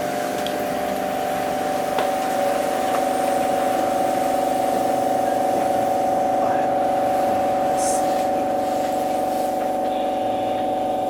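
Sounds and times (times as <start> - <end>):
monorail train electrical hum: 0.0 - 11.0.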